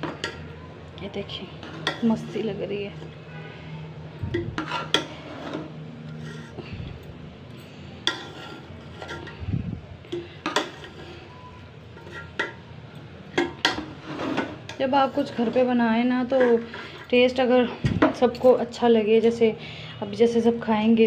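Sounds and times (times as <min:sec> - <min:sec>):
metal spoon scraping pot: 0:01.3 - 0:03.6, 0:04.2 - 0:19.4.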